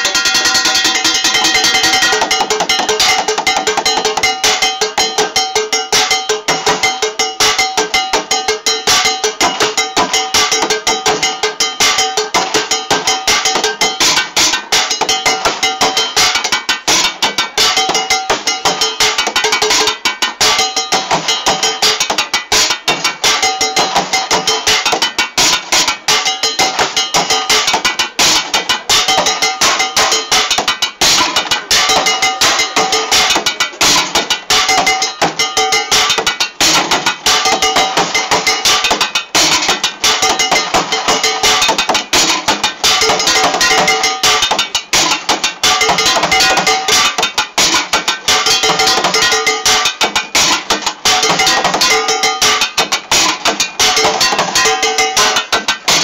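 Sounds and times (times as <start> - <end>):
drumsticks beating cooking pots: 0.0 - 56.0.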